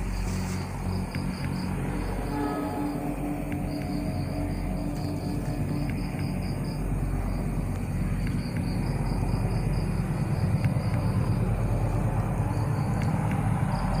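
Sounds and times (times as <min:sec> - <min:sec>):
insects pulsing trill: 0:00.0 - 0:14.0
low fluttering microphone rumble: 0:00.0 - 0:14.0.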